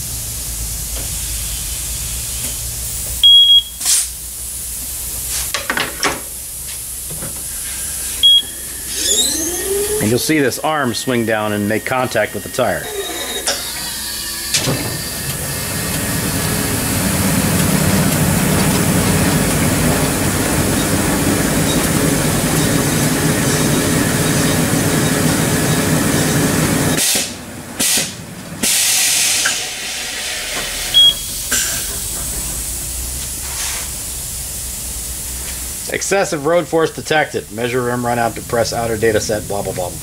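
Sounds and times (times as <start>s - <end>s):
wheel balancer whirring rumble: 6.3s - 28.8s, 29.6s - 40.0s.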